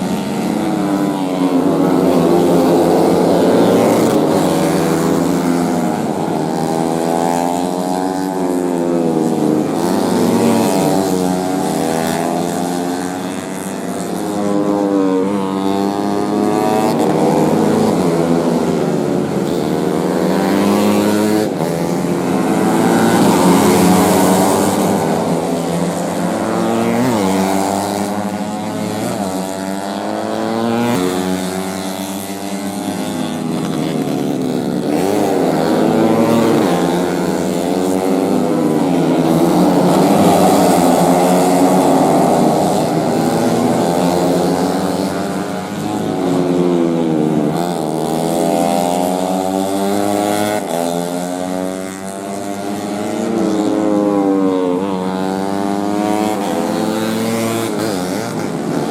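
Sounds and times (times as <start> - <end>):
racing motorcycles revving: 0.0 - 58.9.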